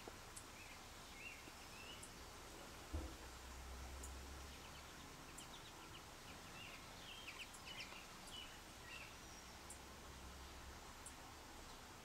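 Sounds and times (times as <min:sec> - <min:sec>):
steady outdoor hiss: 0:00.0 - 0:12.0
sparrow chirps: 0:00.4 - 0:02.3, 0:04.0 - 0:11.8.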